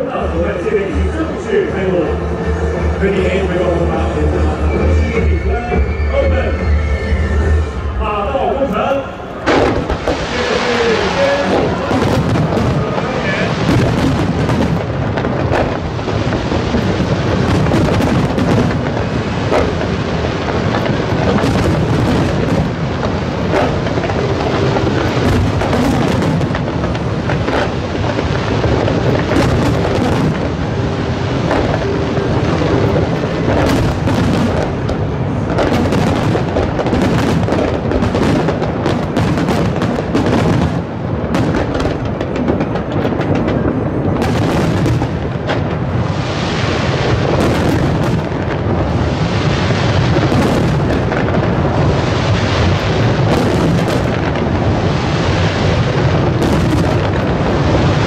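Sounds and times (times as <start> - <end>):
fireworks bangs: 0.0 - 58.0
fireworks crackle and rumble: 0.0 - 58.0.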